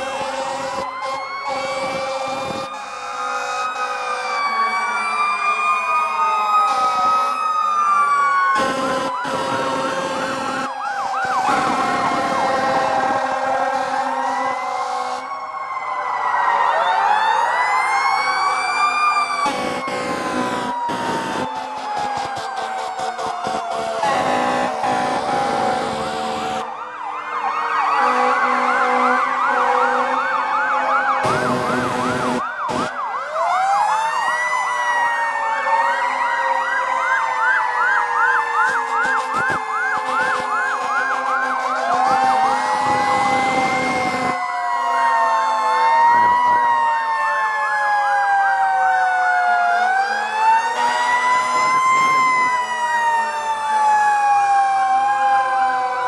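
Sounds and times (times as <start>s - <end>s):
siren rising and falling wail: 0.0s - 56.0s.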